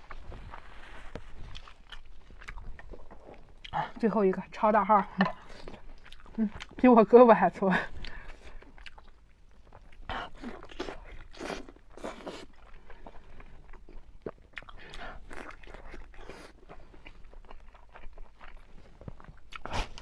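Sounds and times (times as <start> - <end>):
chewing with clicks and smacks: 0.0 - 4.2, 4.8 - 7.1, 8.0 - 20.0.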